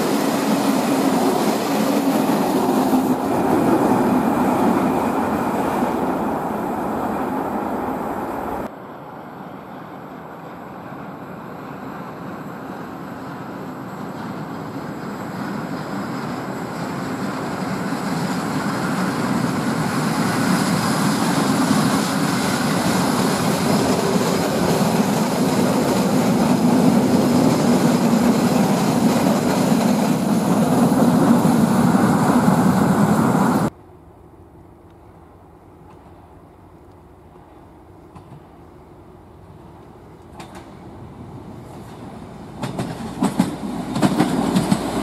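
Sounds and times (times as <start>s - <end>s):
electric train running past: 0.0s - 33.8s, 35.0s - 45.0s.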